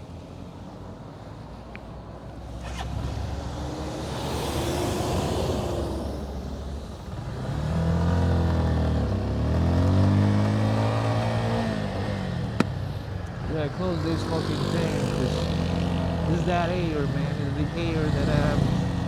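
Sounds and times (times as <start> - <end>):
road and wind noise: 0.0 - 19.0
motorcycle engine revving: 2.6 - 19.0.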